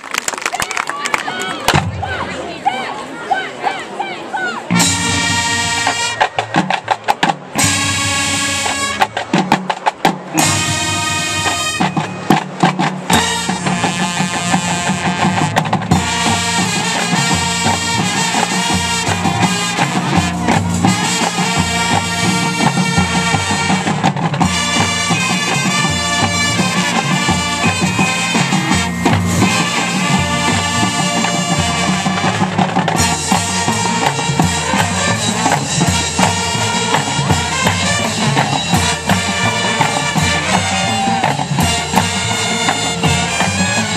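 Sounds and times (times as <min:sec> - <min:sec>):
marching band playing: 0:00.0 - 0:43.9
steady drum beat: 0:04.6 - 0:43.9.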